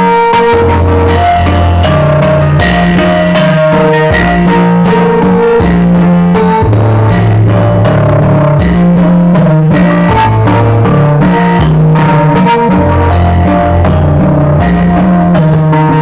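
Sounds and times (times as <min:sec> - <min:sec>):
loud bass-heavy music: 0:00.0 - 0:16.0.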